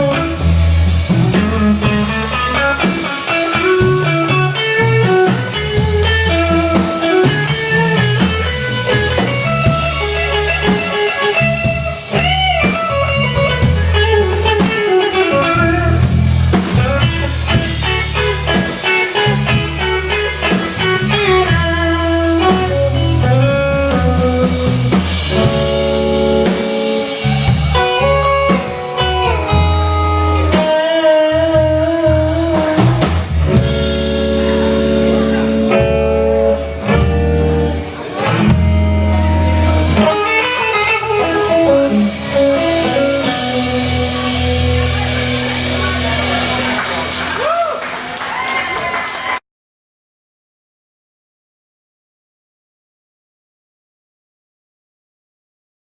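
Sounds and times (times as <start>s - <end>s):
guitar bending notes: 0.0s - 47.3s
blues band playing: 0.0s - 49.4s.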